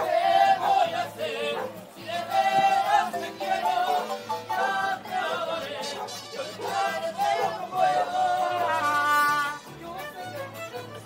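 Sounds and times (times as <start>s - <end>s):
mariachi music: 0.0s - 11.0s
voices singing long notes: 0.0s - 11.0s.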